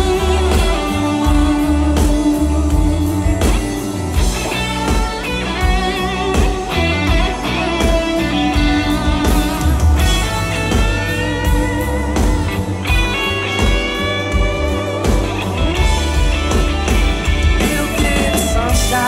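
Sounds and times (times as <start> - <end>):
electric guitars: 0.0 - 19.0
steady drum beat: 0.0 - 19.0.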